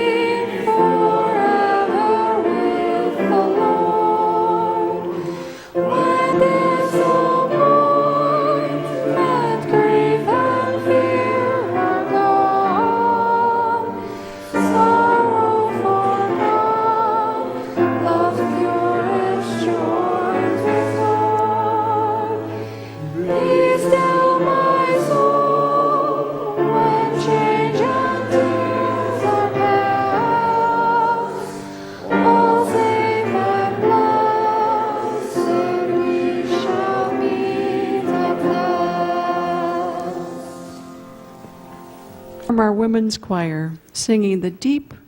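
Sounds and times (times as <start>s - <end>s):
women's choir singing: 0.0s - 42.4s.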